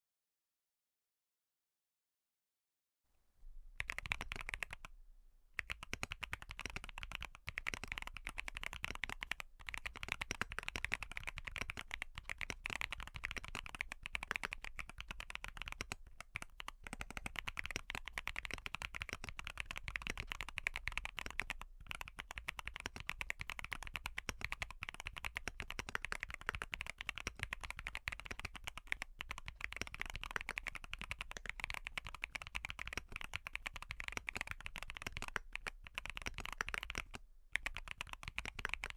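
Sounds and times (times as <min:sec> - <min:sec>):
mechanical keyboard typing: 0:03.8 - 0:04.9, 0:05.6 - 0:38.9.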